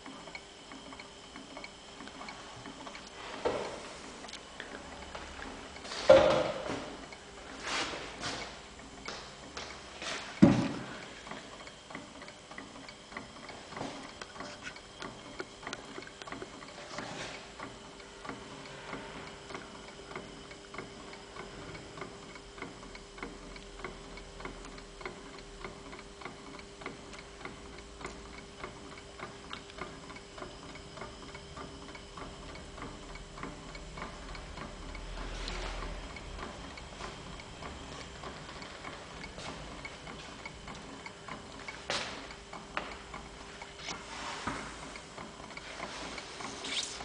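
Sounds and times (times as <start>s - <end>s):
faint hum: 0.0s - 47.0s.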